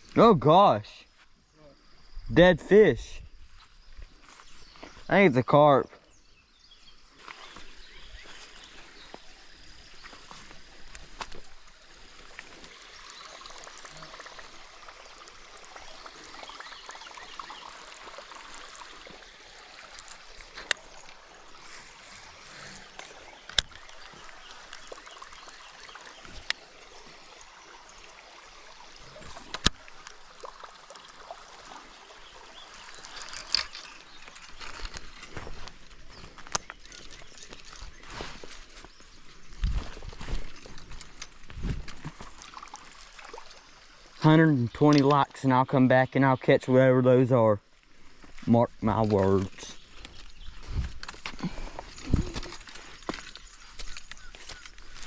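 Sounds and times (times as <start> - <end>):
water trickling: 6.5 - 55.0.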